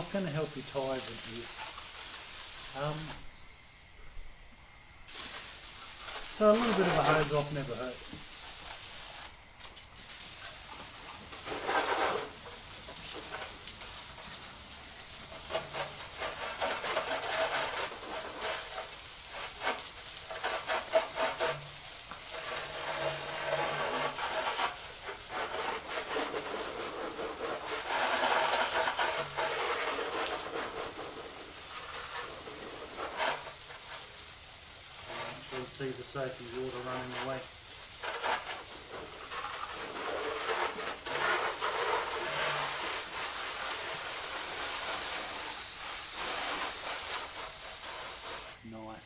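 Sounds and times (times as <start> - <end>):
garden hose spraying water: 0.0 - 49.0.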